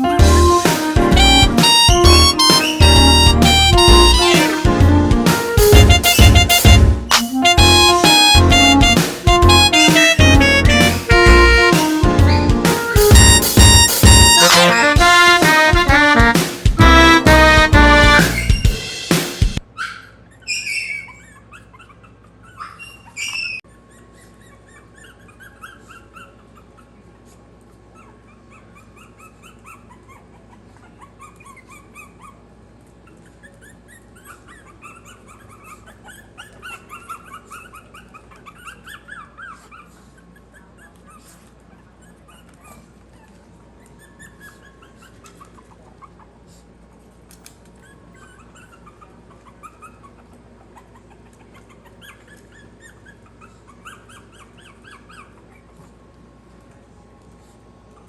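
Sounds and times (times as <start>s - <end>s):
puppies whimpering and squeaking: 0.0s - 15.1s, 17.5s - 18.9s, 19.6s - 56.4s, 57.4s - 58.0s.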